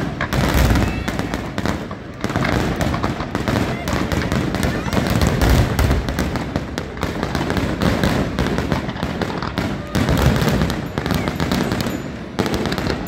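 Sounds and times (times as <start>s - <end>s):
fireworks booming: 0.0s - 13.0s
fireworks crackling: 0.0s - 13.0s.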